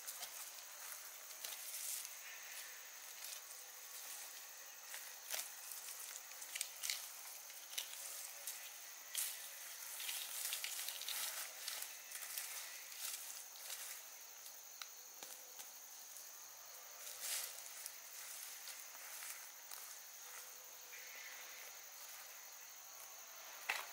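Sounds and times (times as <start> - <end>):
leaves and stems rustling: 0.0 - 23.9
steady high hiss: 0.0 - 23.9.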